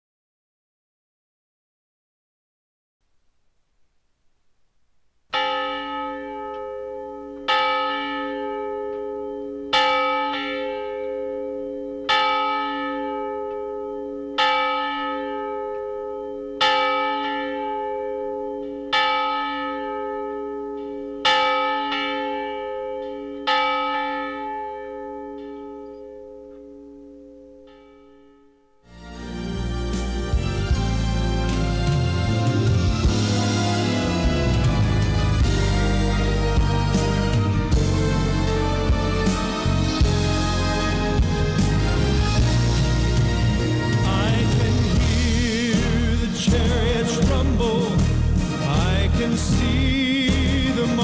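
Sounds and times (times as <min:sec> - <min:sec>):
church bell tolling: 0:05.3 - 0:28.8, 0:31.8 - 0:51.0.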